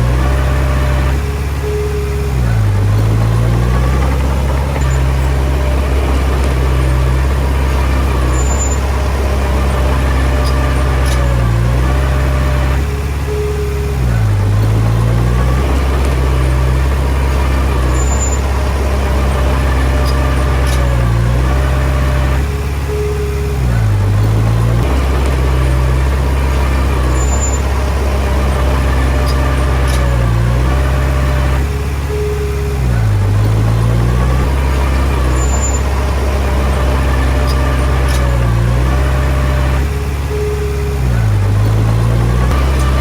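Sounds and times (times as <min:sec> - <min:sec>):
bulldozer diesel engine: 0:00.0 - 0:43.0.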